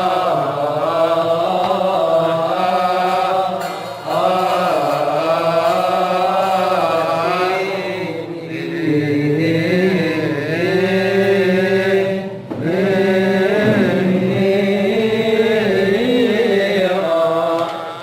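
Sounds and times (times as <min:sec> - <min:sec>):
man chanting a hymn: 0:00.0 - 0:18.0.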